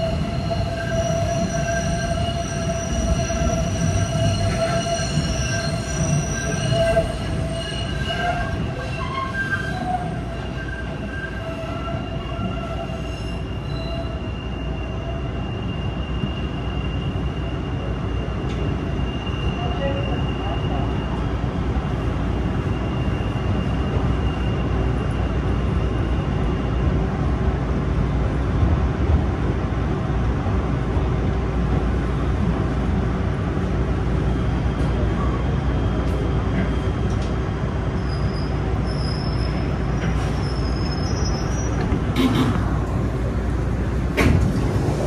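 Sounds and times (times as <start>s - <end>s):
train wheels rumbling: 0.0s - 45.0s.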